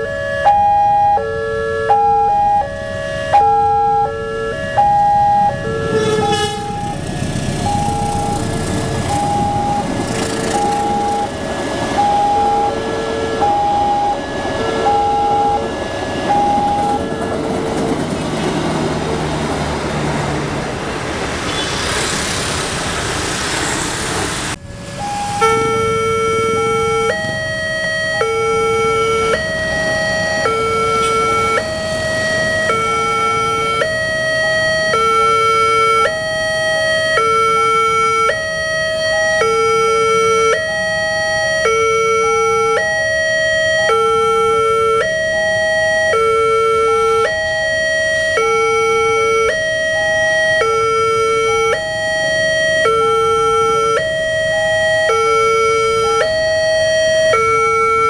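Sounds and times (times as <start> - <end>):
two-tone electronic sirens: 0.0 - 20.4, 22.8 - 58.0.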